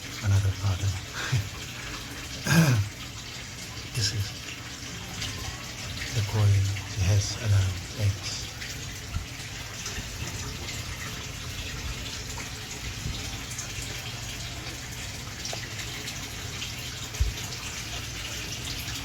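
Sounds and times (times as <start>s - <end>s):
water running into pond: 0.0s - 19.0s.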